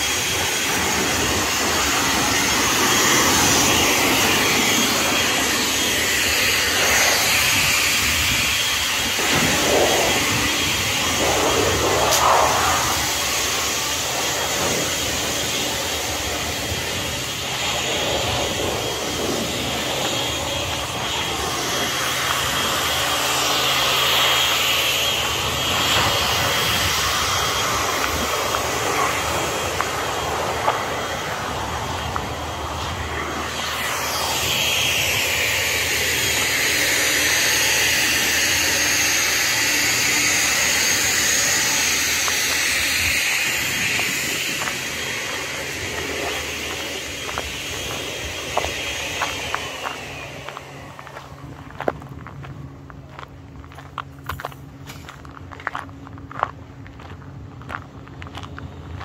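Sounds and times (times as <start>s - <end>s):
sweeping hiss of passing vehicle: 0.0s - 51.7s
passing traffic rushing: 0.0s - 53.5s.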